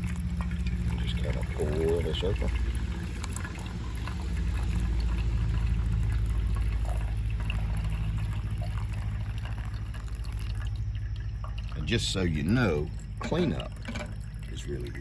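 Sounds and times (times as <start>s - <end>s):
constant low hum: 0.0s - 15.0s
hot water pouring: 0.0s - 15.0s.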